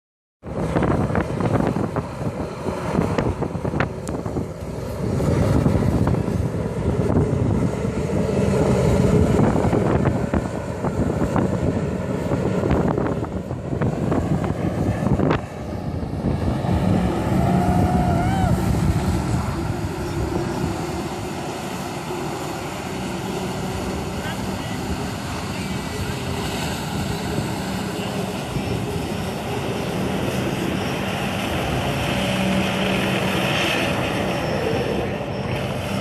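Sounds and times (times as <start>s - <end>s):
personal watercraft engine running hard: 0.4s - 36.0s
wind buffeting microphone: 0.4s - 36.0s.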